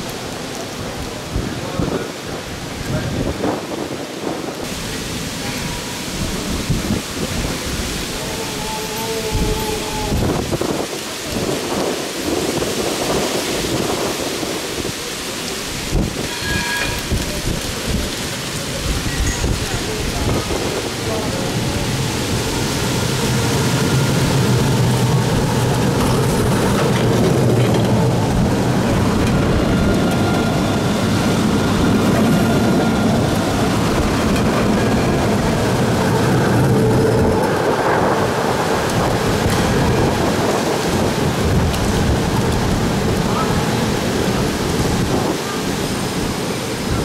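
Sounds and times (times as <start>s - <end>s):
tram wheels rumbling on rails: 0.0s - 47.0s.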